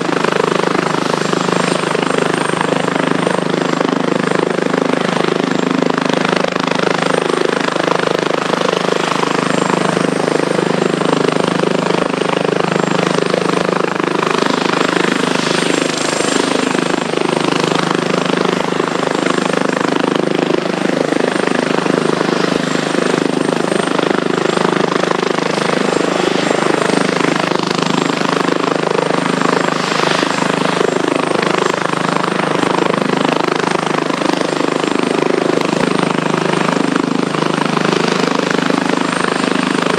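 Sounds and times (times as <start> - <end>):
helicopter rotor and engine noise: 0.0 - 39.9
helicopter turbine whine: 0.0 - 39.9.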